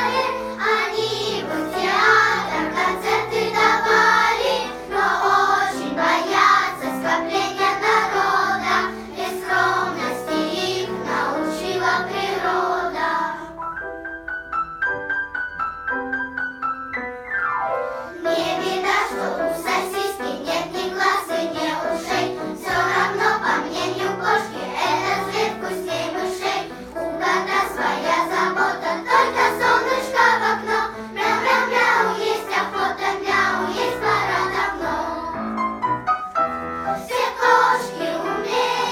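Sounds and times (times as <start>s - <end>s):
children's choir singing: 0.0s - 13.6s, 18.0s - 38.9s
piano accompaniment: 0.0s - 38.9s.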